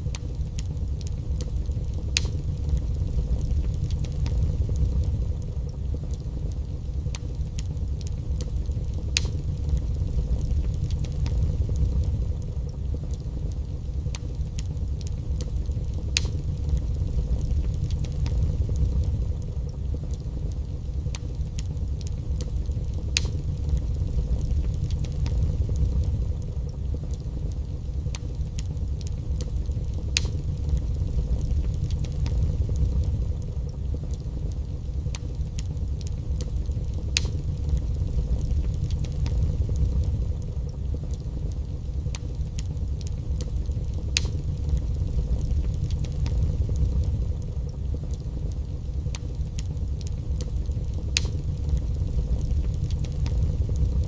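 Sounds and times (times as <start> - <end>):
sharp fire pops: 0.0 - 54.0
wood fire crackling: 0.0 - 54.0.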